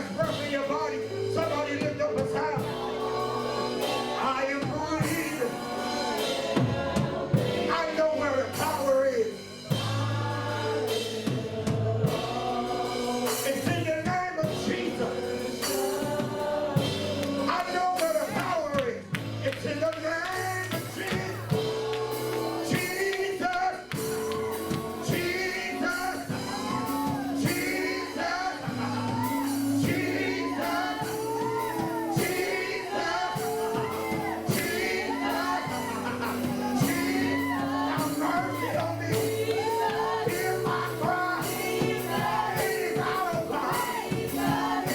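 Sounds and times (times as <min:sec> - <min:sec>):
band with keyboard bass and drums: 0:00.0 - 0:44.9
group of voices singing: 0:00.0 - 0:44.9.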